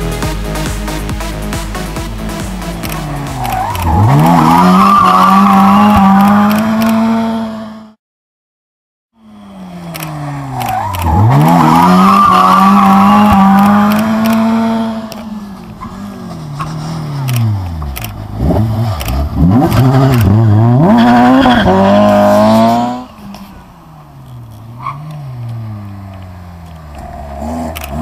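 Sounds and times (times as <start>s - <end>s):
rally car engine at high revs: 0.0s - 8.0s, 9.2s - 28.0s.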